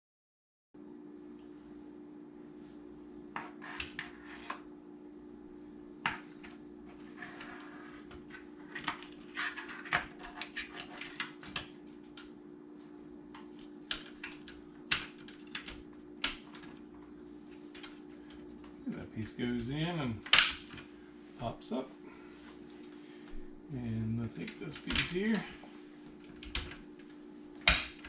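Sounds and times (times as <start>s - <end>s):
steady low hum: 0.8s - 28.0s.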